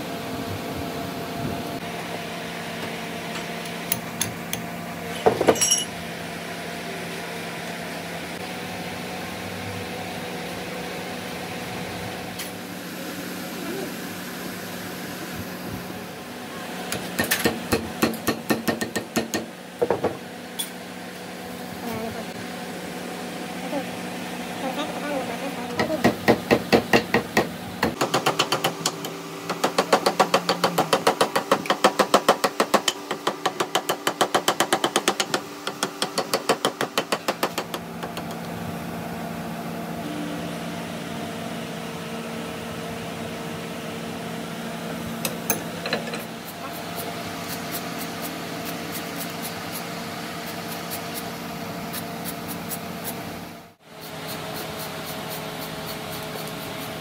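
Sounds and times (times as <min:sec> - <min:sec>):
machine hum with held tone: 0:00.0 - 0:31.6, 0:37.8 - 0:57.0.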